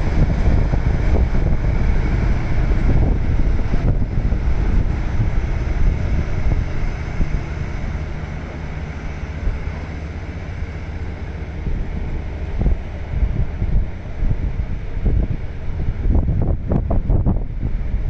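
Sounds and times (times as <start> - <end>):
track machine engine and sweeping: 0.0 - 18.0
wind buffeting microphone: 0.0 - 18.0.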